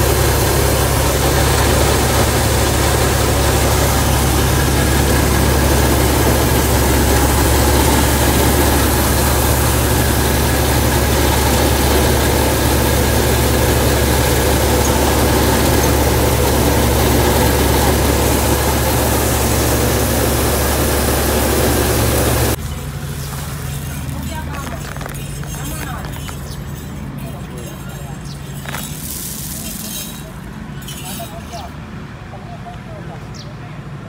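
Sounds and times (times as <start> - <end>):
seed pouring onto heap: 0.0 - 26.3, 28.6 - 30.4
combine harvester droning: 0.0 - 31.0.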